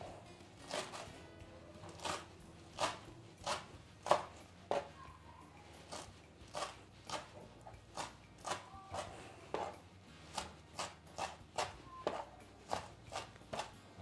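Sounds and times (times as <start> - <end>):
knife chopping on cutting board: 0.0 - 1.2, 1.8 - 5.0, 5.9 - 13.8.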